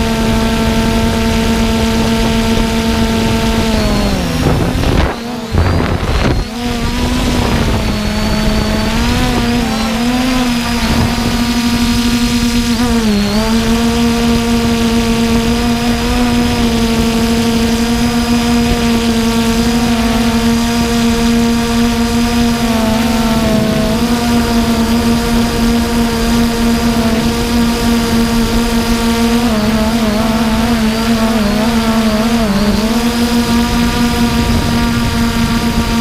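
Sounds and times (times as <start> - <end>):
drone propellers humming: 0.0 - 36.0.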